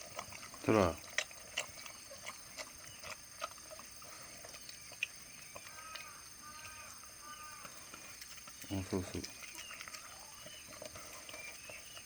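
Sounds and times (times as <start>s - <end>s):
dog chewing and lapping: 0.0s - 6.5s, 7.6s - 12.0s.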